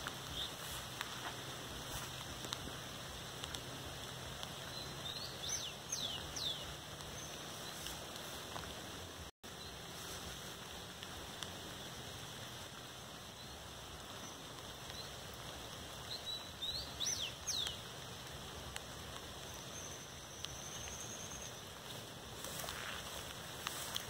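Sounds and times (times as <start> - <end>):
songbirds chirping: 0.0 - 10.3, 10.9 - 24.0
outdoor background noise: 0.0 - 24.0.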